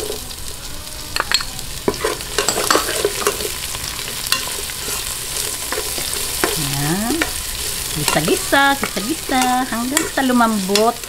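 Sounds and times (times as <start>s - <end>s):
onions sizzling in a pot: 0.0s - 11.0s
metal spoon clicking and scraping: 1.2s - 3.6s, 4.2s - 11.0s
spatula stirring against pot: 1.2s - 11.0s.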